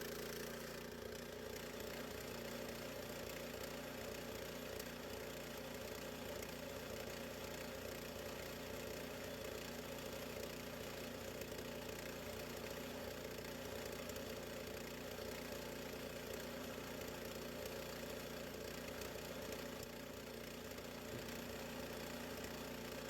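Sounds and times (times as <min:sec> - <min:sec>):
small gasoline engine running: 0:00.0 - 0:23.0.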